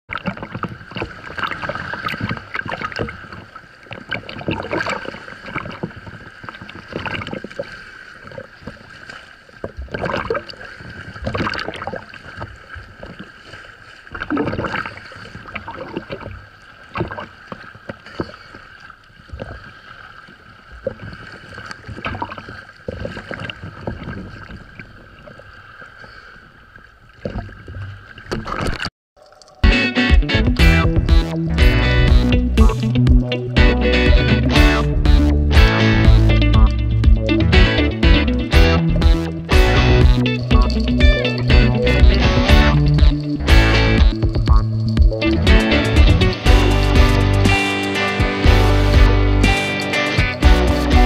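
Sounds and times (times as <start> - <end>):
sea waves splashing: 0.1 - 51.0.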